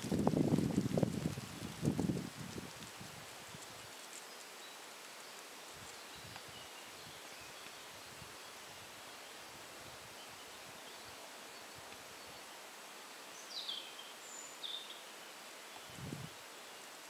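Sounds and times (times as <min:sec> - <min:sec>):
leaves rustling: 0:00.0 - 0:17.0
steady hiss: 0:00.0 - 0:17.0.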